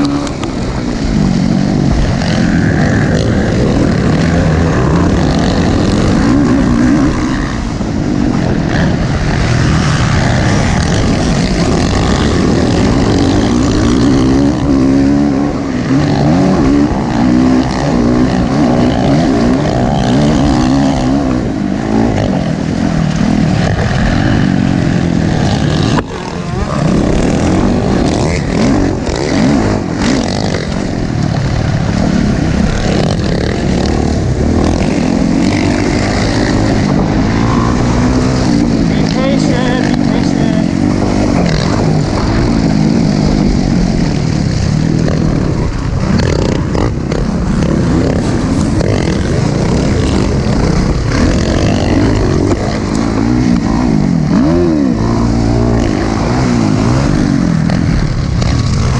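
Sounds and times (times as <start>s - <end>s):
dirt bike engines revving: 0.0s - 58.9s.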